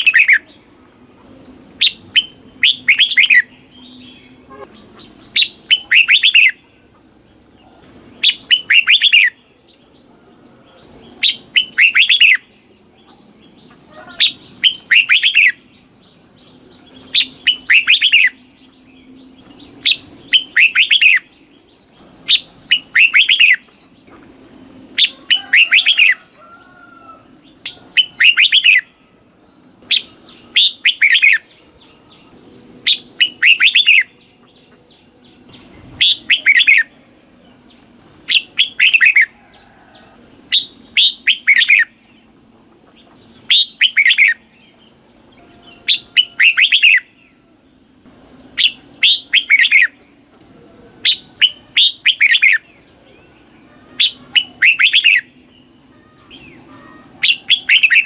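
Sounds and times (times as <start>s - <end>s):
bird chirping: 0.0s - 58.0s
faint low hum: 0.0s - 58.0s.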